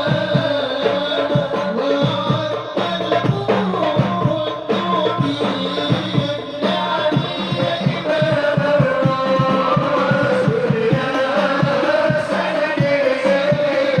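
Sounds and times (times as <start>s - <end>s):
group singing devotional song: 0.0s - 14.0s
hand drum percussion: 0.0s - 14.0s.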